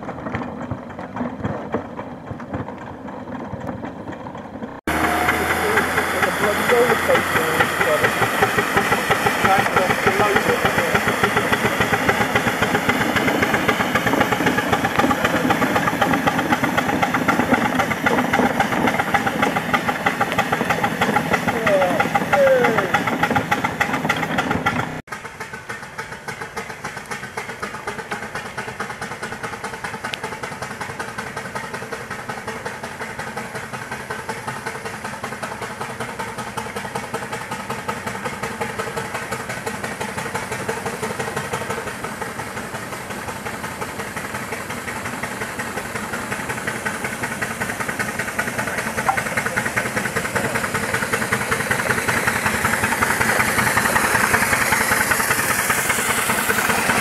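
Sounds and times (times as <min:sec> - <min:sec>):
steam engine exhaust chuffing: 0:00.0 - 0:57.0.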